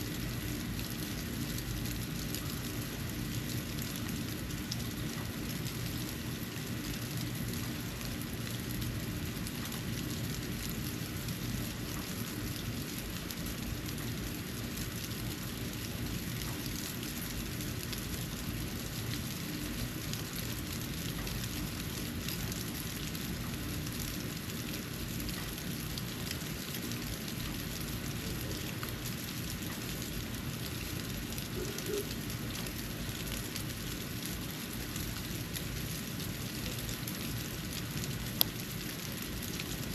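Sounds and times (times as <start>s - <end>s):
snow patter of fine ticks: 0.2s - 39.9s.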